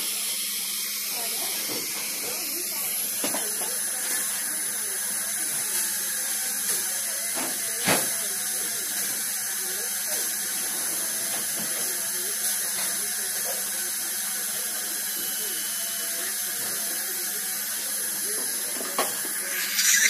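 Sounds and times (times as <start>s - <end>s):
dental drill whining: 0.0s - 20.0s
suction tube running: 0.0s - 20.0s.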